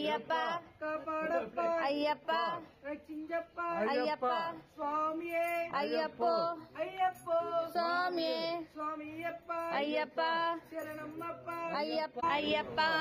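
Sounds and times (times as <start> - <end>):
woman singing: 0.0 - 13.0.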